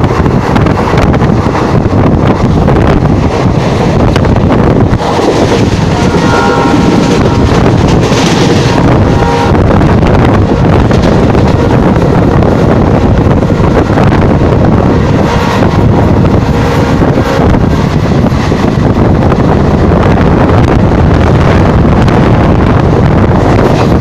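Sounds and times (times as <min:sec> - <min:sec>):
passenger train rumbling: 0:00.0 - 0:24.0
wind buffeting microphone: 0:00.0 - 0:24.0.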